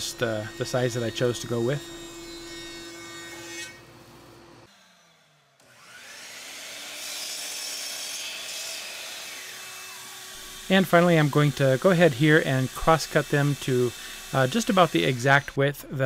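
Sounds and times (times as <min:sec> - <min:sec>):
thickness planer running: 0:00.0 - 0:15.6
miter saw whining: 0:00.0 - 0:15.7
saw cutting wood: 0:00.0 - 0:15.7.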